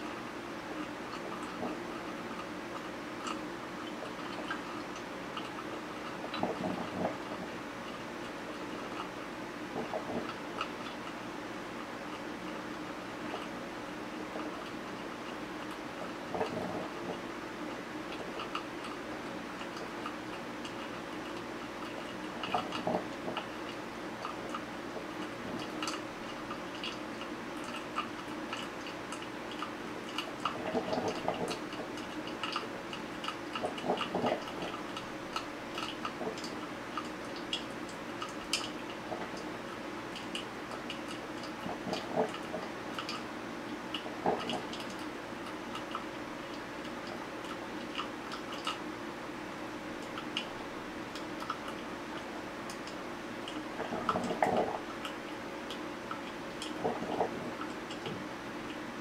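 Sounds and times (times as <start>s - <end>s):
coffee maker gurgling: 0.0s - 59.0s
coffee maker humming: 4.8s - 38.2s, 38.8s - 59.0s.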